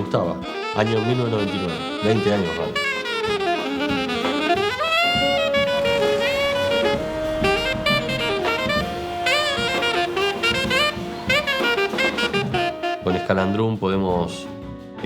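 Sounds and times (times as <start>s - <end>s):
saxophone-led jazz ensemble: 0.0s - 14.3s.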